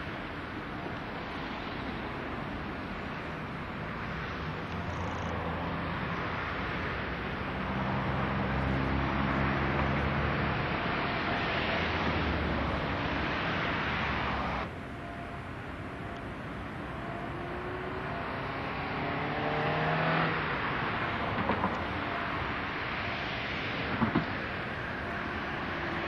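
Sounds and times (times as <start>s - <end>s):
outdoor noise rush: 0.0s - 26.0s.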